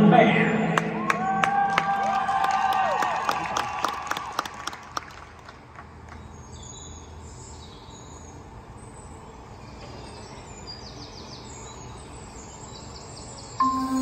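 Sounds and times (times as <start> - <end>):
low hum of hall and audience: 0.0 - 14.0.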